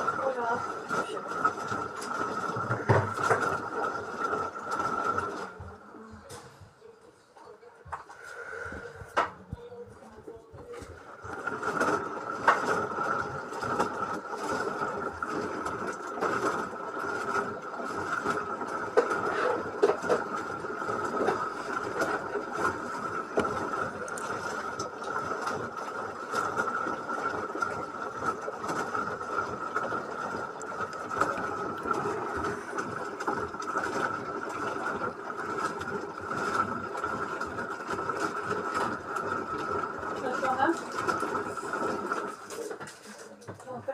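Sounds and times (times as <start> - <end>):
washing machine motor whine: 0.0 - 43.9.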